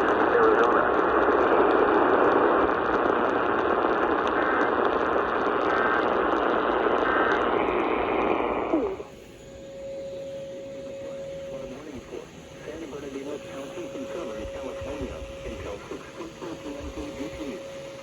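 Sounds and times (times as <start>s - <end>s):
radio static hiss: 0.0s - 18.0s
faint steady tone: 3.0s - 18.0s.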